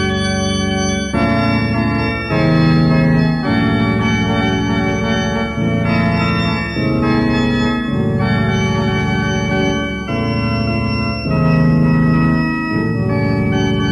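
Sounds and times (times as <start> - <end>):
organ keyboard chords: 0.0 - 13.9.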